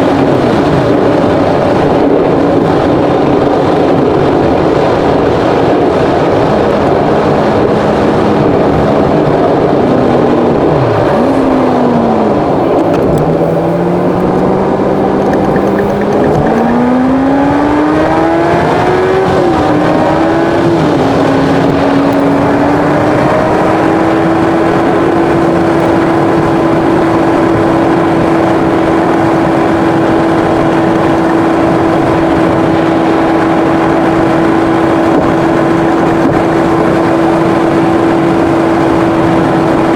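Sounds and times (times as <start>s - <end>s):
car engine: 0.0s - 39.9s
road and wind noise: 0.0s - 39.9s.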